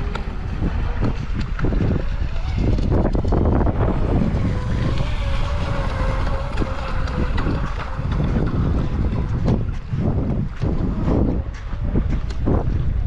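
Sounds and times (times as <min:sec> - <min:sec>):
electric motor whine: 0:00.0 - 0:11.2
wind buffeting microphone: 0:00.0 - 0:13.0.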